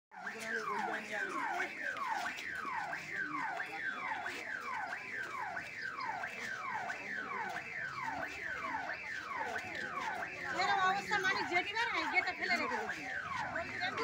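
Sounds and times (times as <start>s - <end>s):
electronic warning siren sweeping: 0.1s - 14.0s.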